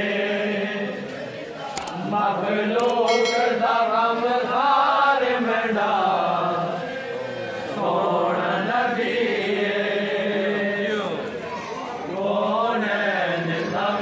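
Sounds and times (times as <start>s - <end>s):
male voices chanting: 0.0s - 14.0s.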